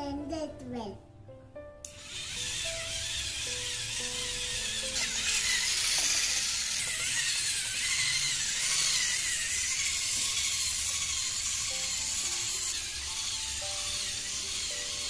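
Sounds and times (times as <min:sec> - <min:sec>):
handheld whisk whirring: 0:01.8 - 0:15.0.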